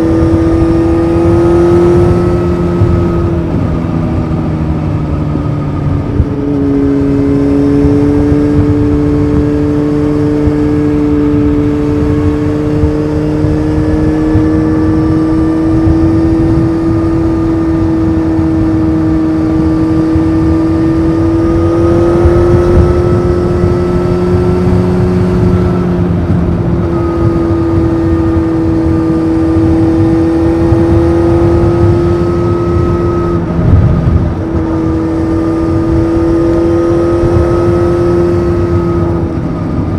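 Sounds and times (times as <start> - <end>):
motorcycle engine on the move: 0.0 - 39.9
wind rush: 0.0 - 39.9.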